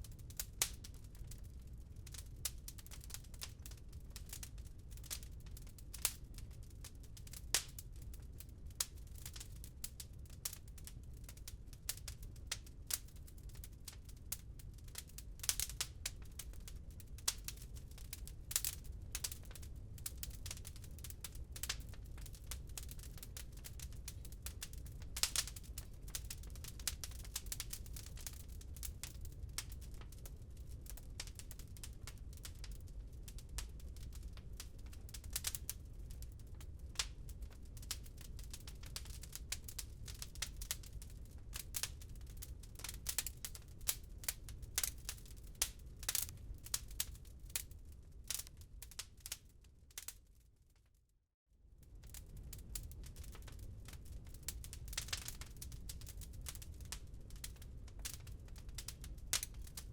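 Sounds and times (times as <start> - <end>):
wood fire crackling and popping: 0.0 - 50.3, 51.9 - 59.9.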